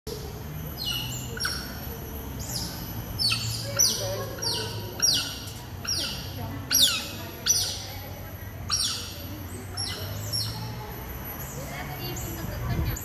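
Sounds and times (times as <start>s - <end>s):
otters chirping: 0.1s - 13.0s.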